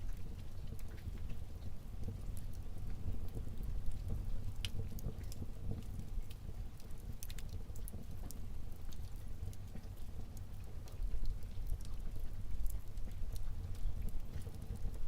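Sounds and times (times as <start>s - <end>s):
logs crackling and popping: 0.0s - 15.0s
rumble of flames: 0.0s - 15.0s.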